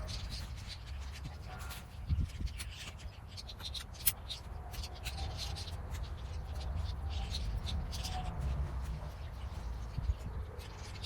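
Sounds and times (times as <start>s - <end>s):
steady low rumble: 0.0s - 11.0s
tent fabric and poles rustling: 0.0s - 11.0s.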